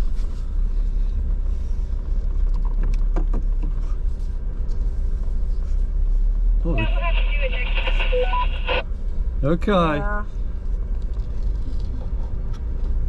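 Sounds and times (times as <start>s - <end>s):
vehicle engine drone from inside: 0.0s - 13.0s.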